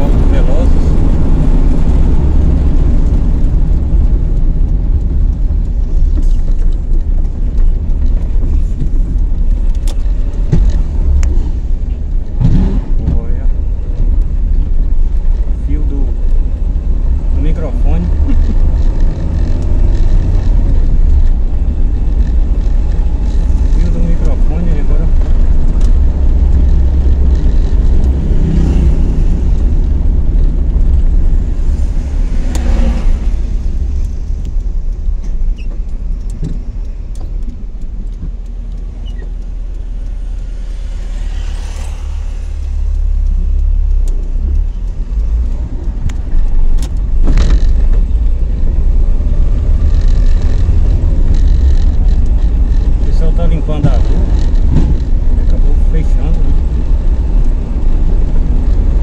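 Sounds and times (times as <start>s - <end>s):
car engine drone inside cabin: 0.0s - 59.0s
road noise: 0.0s - 59.0s.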